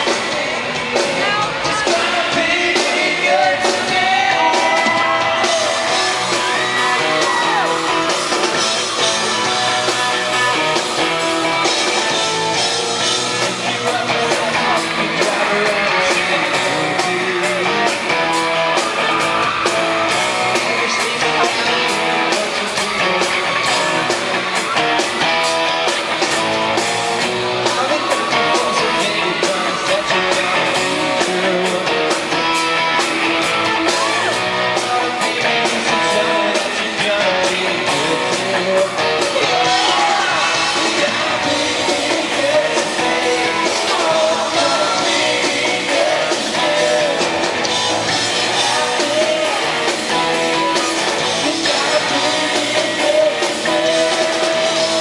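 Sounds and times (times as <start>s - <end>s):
men singing: 0.0s - 11.8s, 12.6s - 19.7s, 20.4s - 24.8s, 27.7s - 55.0s
guitars: 0.0s - 55.0s
steady drum beat: 0.0s - 55.0s.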